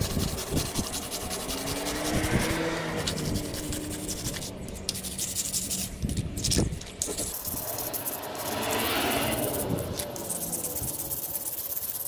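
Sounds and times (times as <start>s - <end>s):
wire brush scrubbing metal: 0.0s - 12.0s.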